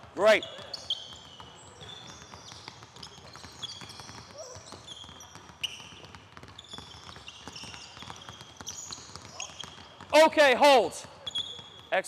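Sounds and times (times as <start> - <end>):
basketballs bouncing on gym floor: 0.0 - 12.0
sneaker squeaks: 0.1 - 12.0.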